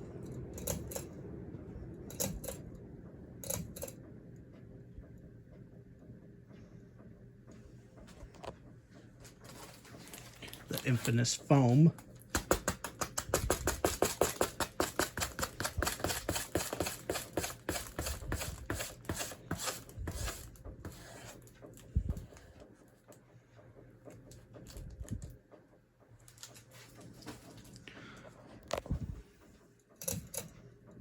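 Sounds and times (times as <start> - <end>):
ceiling fan coasting down: 0.0 - 31.0
fan ticking: 0.0 - 31.0.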